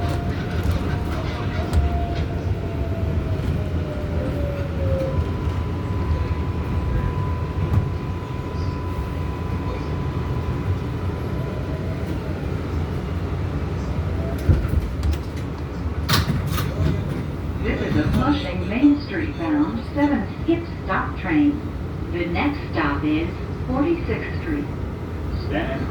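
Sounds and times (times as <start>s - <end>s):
subway train rumble: 0.0s - 25.9s.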